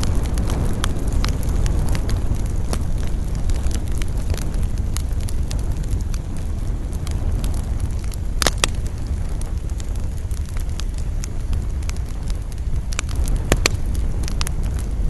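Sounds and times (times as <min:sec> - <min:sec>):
campfire crackling: 0:00.0 - 0:15.0
fire popping: 0:00.0 - 0:15.0
low rumble: 0:00.0 - 0:15.0.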